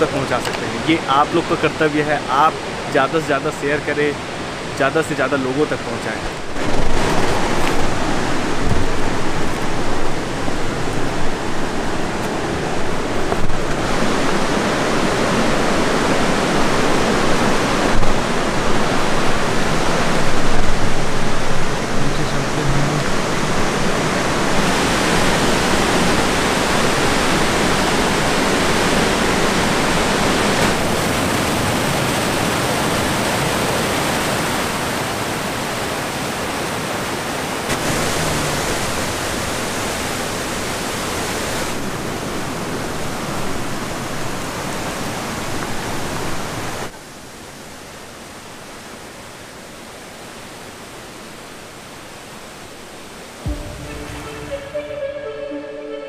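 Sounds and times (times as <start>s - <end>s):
waterfall rushing over rock: 0.0s - 54.5s.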